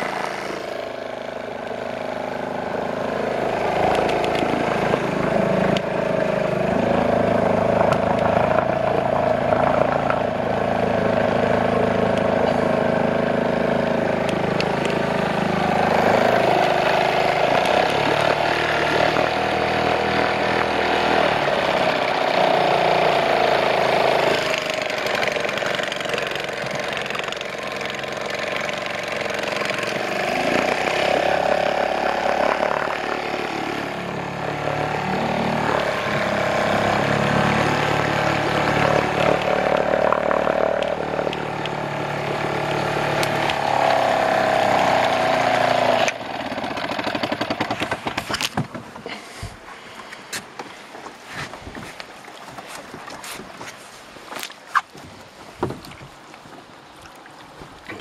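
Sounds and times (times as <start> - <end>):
small boat motor: 0.0 - 58.0.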